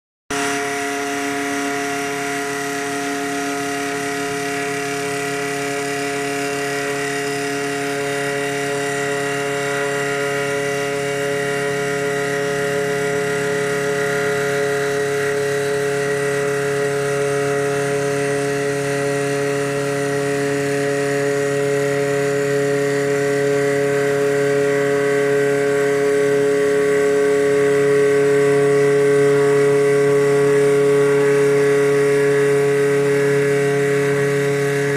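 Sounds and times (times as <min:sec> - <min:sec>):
lathe motor whine: 0:00.3 - 0:34.9.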